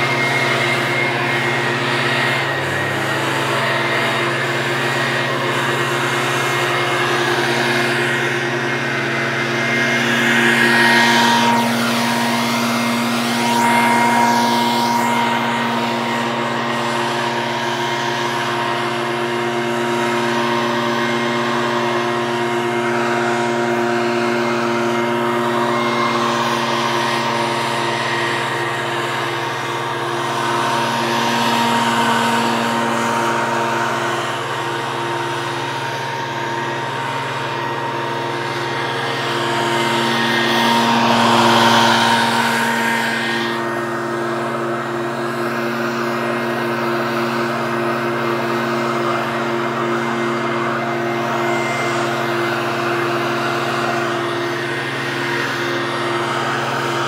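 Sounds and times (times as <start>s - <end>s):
leaf blower running: 0.0s - 57.0s.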